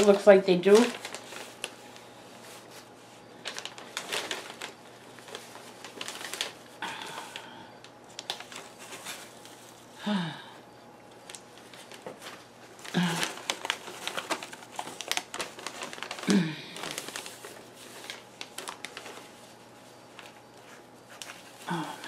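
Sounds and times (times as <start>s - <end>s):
paper rustling and crinkling: 0.0s - 10.0s, 11.1s - 22.0s.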